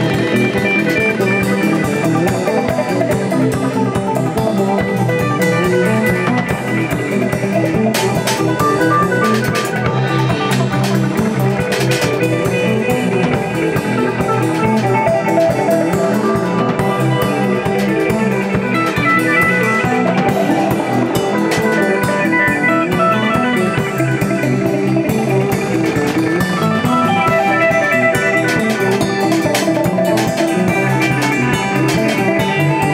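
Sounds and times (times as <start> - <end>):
drum kit strikes: 0.0 - 32.9
guitar plucked notes: 0.0 - 32.9
low bass notes: 0.0 - 32.9.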